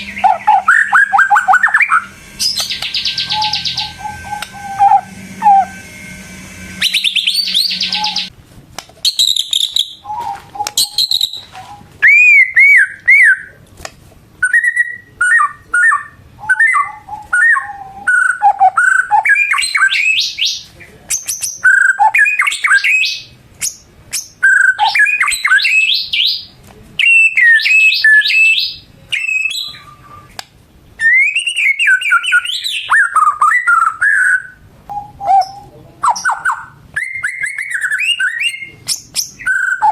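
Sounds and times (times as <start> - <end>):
bird singing whistled phrases: 0.0 - 5.8, 6.7 - 8.3, 9.0 - 13.6, 14.4 - 30.4, 31.0 - 39.9.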